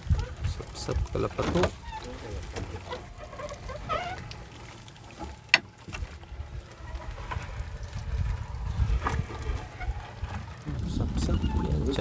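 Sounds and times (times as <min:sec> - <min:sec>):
low steady rumble: 0:00.0 - 0:12.0
net hauled into boat: 0:00.0 - 0:12.0.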